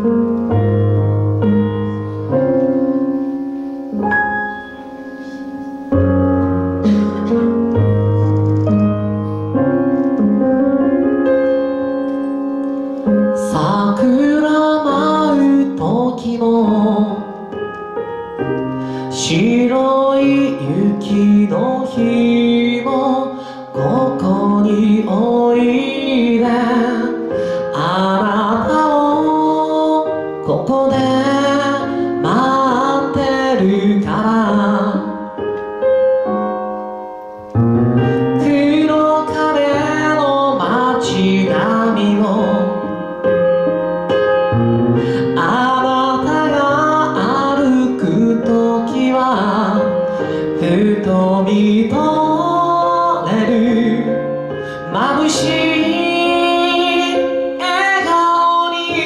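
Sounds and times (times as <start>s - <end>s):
digital piano: 0.0s - 59.0s
person singing a ballad: 0.0s - 59.0s.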